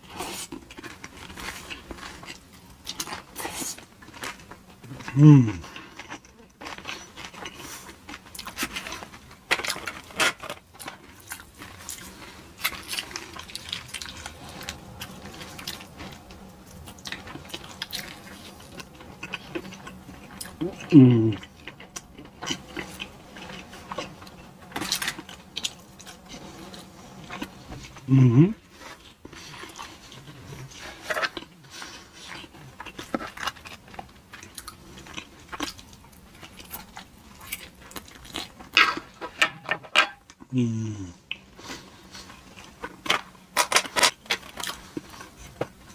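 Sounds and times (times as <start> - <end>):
chewing and crunching food: 0.0 - 45.9.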